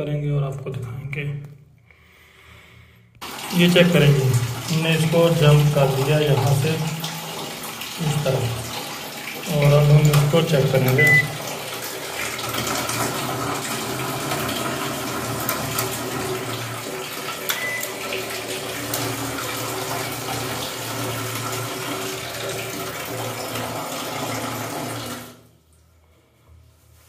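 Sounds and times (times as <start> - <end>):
water running from a tap: 3.2 - 25.4.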